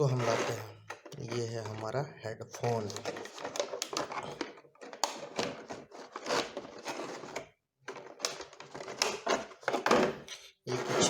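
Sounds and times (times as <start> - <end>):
packaging rustling: 1.0 - 10.1.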